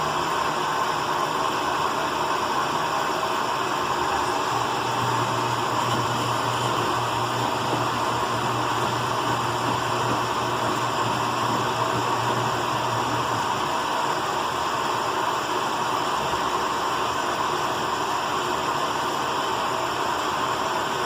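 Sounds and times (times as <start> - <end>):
washing machine rushing: 0.0 - 17.2.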